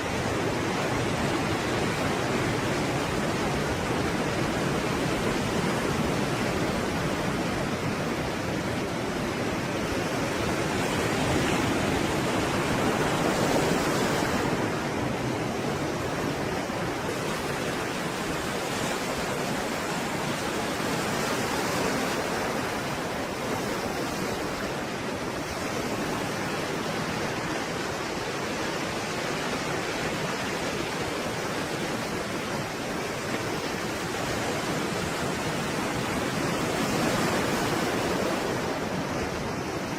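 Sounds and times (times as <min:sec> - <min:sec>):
breaking waves: 0:00.0 - 0:39.9.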